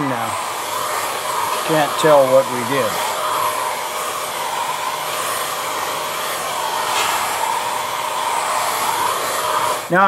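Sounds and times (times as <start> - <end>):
hair dryer running: 0.0 - 10.0.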